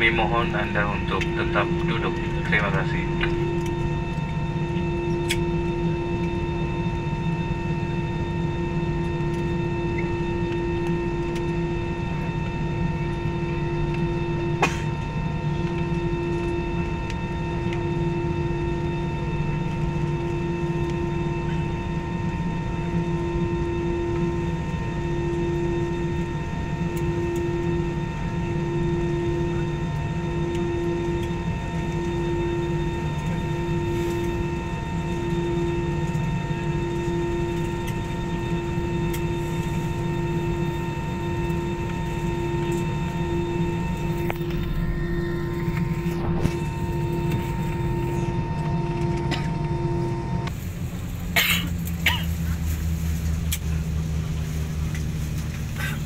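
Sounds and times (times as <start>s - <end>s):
airliner engine drone with whine: 0.0s - 56.0s
pulsing low hum: 0.0s - 56.0s.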